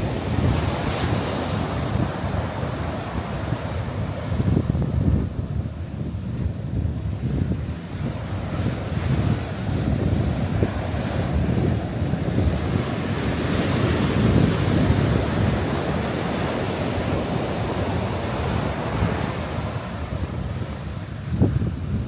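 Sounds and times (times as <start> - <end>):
ocean surf breaking: 0.0 - 6.0, 6.6 - 22.0
wind buffeting microphone: 0.0 - 22.0.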